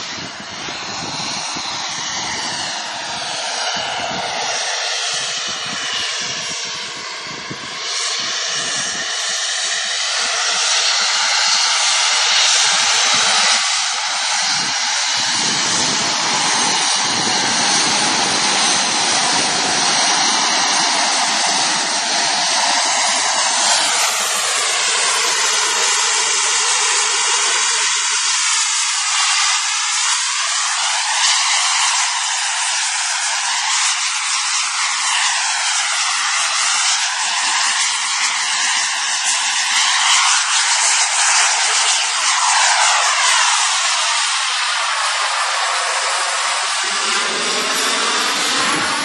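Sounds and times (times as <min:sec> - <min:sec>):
model jet engine whine: 0:00.0 - 0:49.0.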